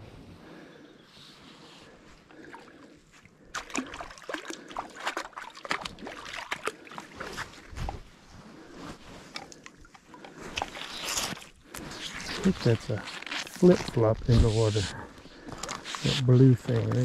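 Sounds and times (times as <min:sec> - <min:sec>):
water splashing and dribbling: 0:02.3 - 0:08.2, 0:09.2 - 0:17.0.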